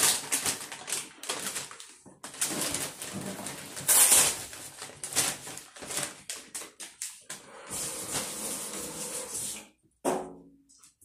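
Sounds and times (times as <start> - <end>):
plastic bag rustling: 0.0 - 9.5.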